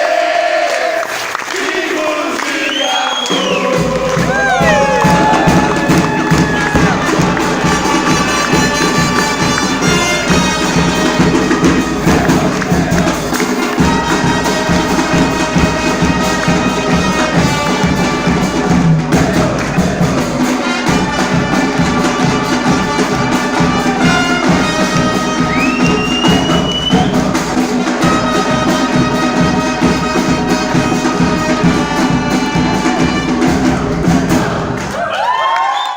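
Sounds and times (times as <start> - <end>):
live band playing upbeat music: 4.2 - 34.6.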